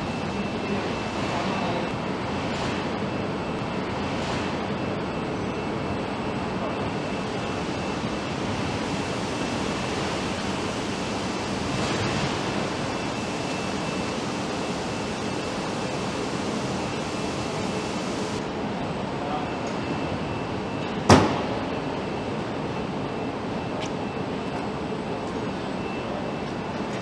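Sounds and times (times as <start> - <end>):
factory hall hiss: 0.0 - 26.7.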